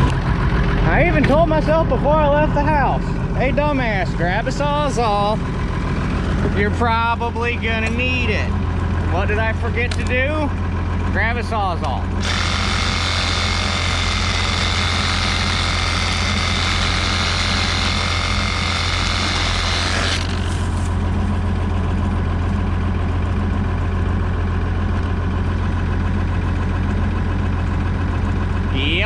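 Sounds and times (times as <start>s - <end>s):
combine harvester engine idling: 0.0s - 29.0s.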